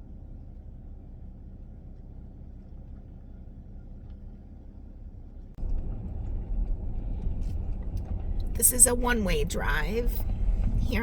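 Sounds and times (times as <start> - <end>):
vehicle rumble from inside cab: 0.0 - 11.0.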